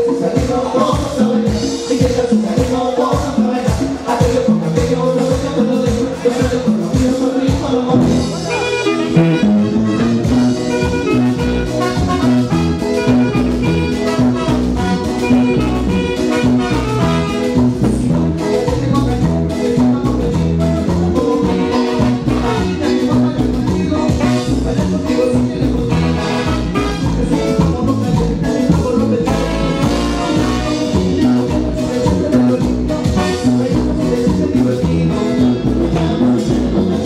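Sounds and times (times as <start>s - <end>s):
upbeat salsa dance music: 0.0s - 37.0s.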